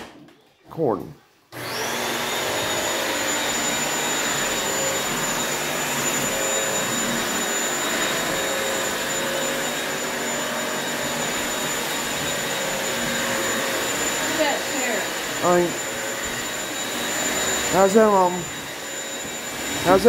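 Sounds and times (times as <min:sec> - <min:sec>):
vacuum mop running: 0:01.6 - 0:20.0.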